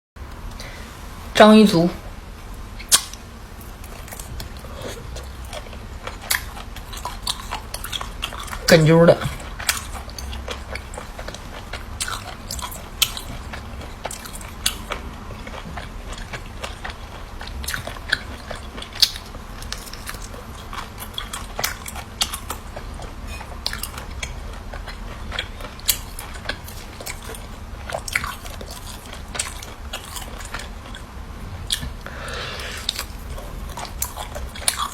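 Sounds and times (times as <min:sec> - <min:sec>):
person chewing crunchy food: 0:02.8 - 0:34.9.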